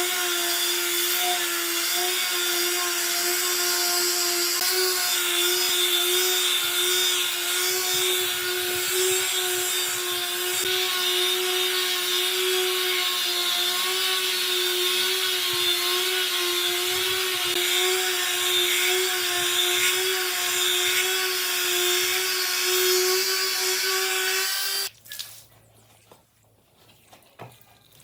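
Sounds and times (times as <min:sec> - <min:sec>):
power tool whining on wood: 0:00.0 - 0:24.9.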